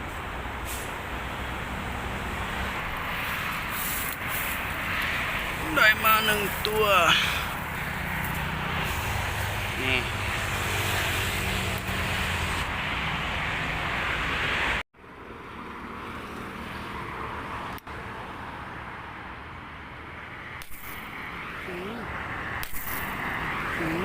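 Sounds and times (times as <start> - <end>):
rushing outdoor noise: 0.0 - 24.0.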